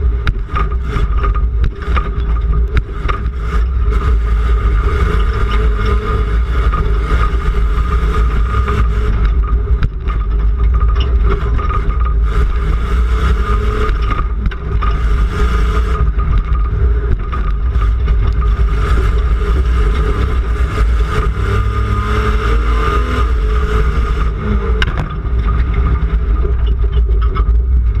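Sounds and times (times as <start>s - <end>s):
truck engine revving: 0.0s - 9.9s, 10.8s - 26.9s
knocks and rattles: 0.0s - 28.0s.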